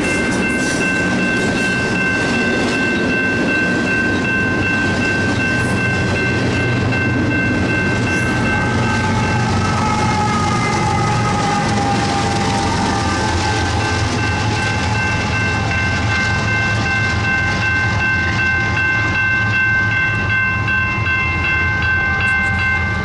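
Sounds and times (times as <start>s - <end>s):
crossing warning bell ringing: 0.0s - 23.0s
freight train rumbling past: 0.0s - 23.0s.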